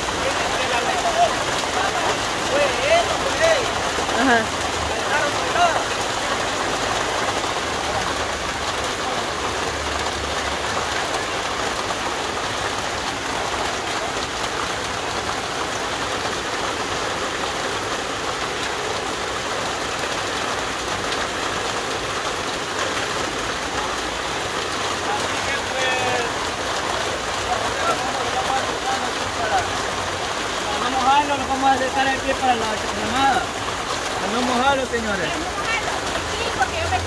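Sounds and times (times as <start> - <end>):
heavy rain on grass: 0.0 - 37.0.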